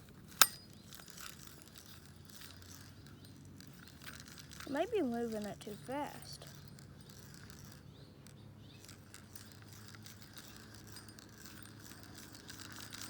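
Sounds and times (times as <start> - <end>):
fishing reel ticking: 0.0 - 13.0.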